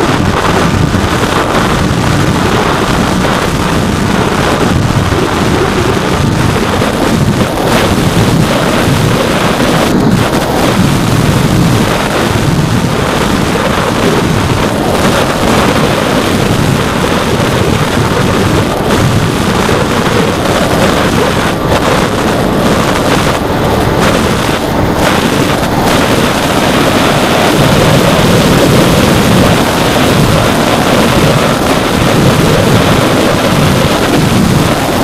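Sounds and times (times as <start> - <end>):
electric motor and propeller: 0.0 - 35.0
wind buffeting microphone: 0.0 - 35.0.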